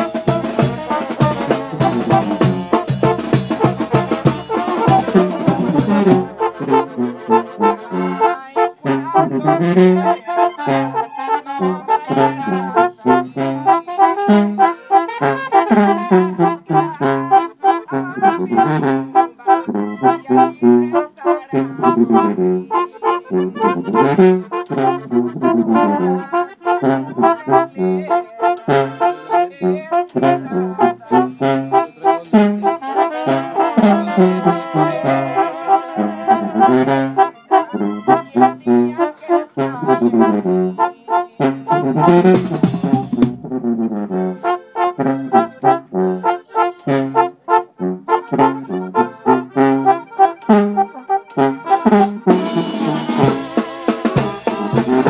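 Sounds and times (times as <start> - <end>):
brass band playing: 0.0 - 55.0
sousaphone bass line: 0.0 - 55.0
trumpets: 0.0 - 55.0.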